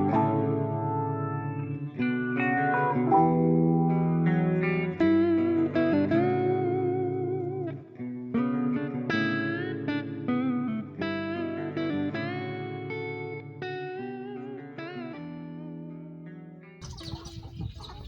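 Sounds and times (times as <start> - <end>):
guitar melody with bends: 0.0 - 16.8.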